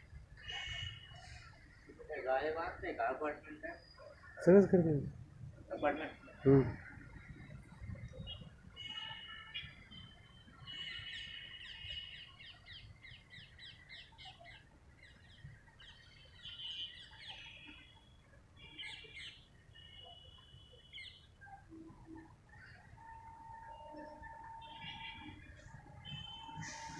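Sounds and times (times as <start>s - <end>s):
birds chirping and calling: 0.4s - 4.7s, 9.6s - 26.9s.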